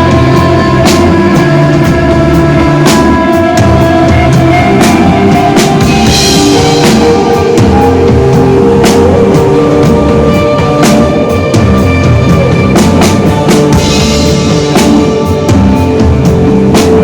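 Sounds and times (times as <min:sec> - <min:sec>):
drum kit beat: 0:00.0 - 0:17.0
electric guitar: 0:00.0 - 0:17.0.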